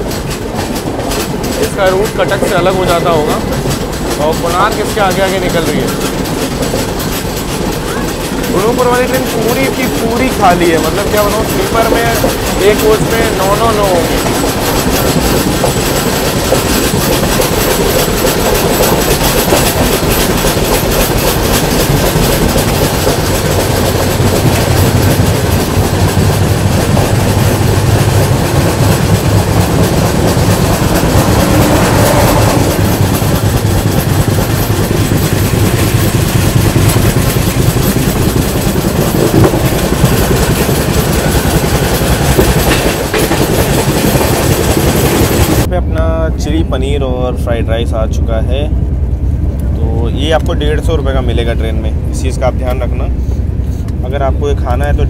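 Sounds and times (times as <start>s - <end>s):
train wheels clattering over rails: 0.0s - 45.7s, 46.5s - 55.0s.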